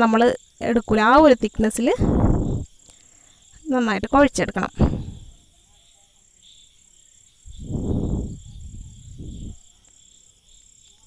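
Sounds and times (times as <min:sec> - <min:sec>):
high cricket trill: 0:00.0 - 0:11.0.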